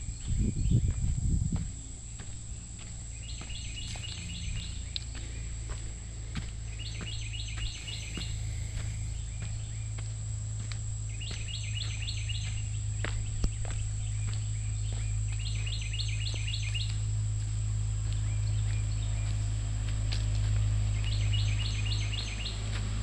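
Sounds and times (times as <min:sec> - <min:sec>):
footsteps on dirt trail: 0:00.0 - 0:23.0
songbird singing: 0:00.0 - 0:23.0
steady low rumble: 0:00.0 - 0:23.0.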